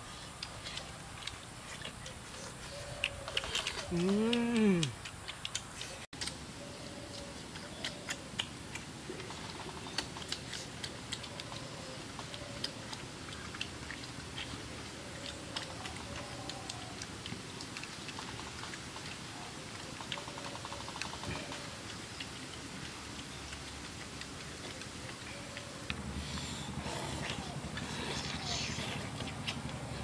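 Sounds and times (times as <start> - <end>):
people chewing chicken: 0.0 - 30.0.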